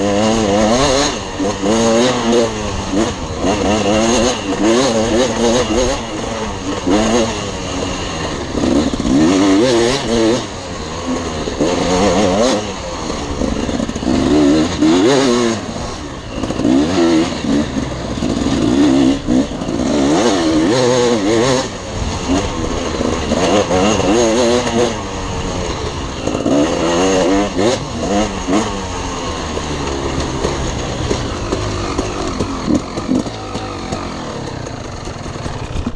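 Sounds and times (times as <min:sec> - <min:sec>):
dirt bike engine revving: 0:00.0 - 0:35.9.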